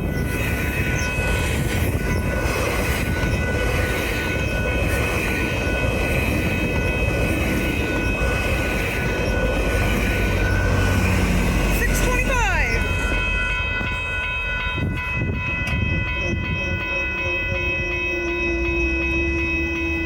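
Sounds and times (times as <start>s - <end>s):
steady high tones: 0.0s - 20.0s
train rumbling past: 0.0s - 20.0s.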